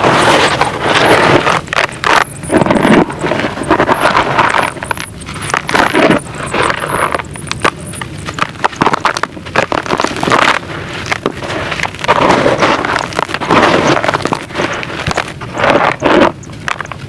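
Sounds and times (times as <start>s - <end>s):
sand-cement crunching: 0.0s - 17.0s.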